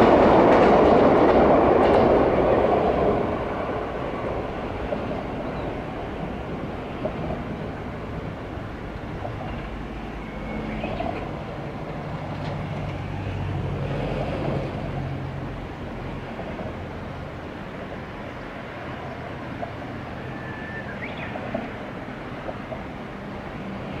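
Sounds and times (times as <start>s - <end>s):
electric train rumble: 0.0s - 24.0s
steady outdoor hiss: 0.0s - 24.0s.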